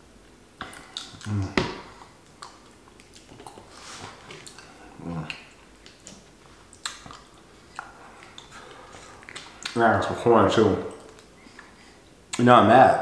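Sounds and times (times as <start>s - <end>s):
mouth and lip eating sounds: 0.5s - 12.5s.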